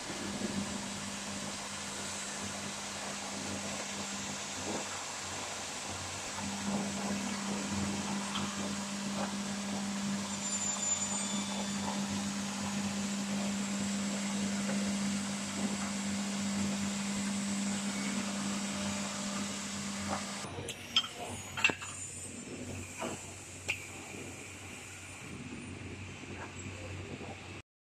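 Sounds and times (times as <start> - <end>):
machine motor hum and hiss: 0.0 - 27.6.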